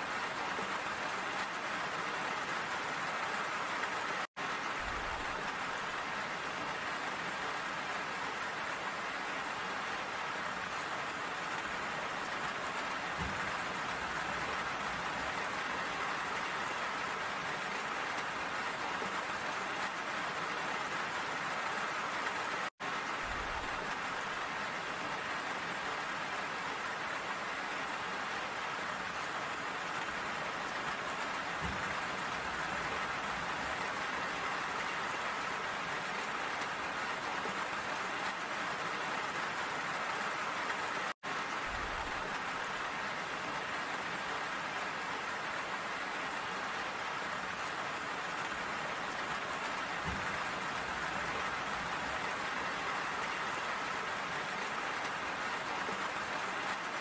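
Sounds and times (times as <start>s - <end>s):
rain falling and splashing: 0.0s - 57.0s.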